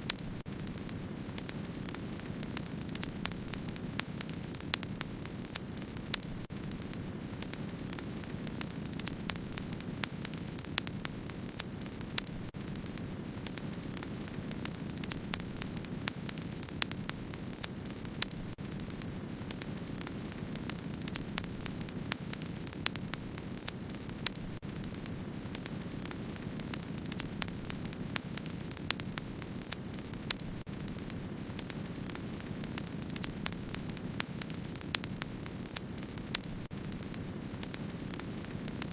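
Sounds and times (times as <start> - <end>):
flames rushing: 0.0 - 38.9
wood fire crackling: 0.0 - 38.9.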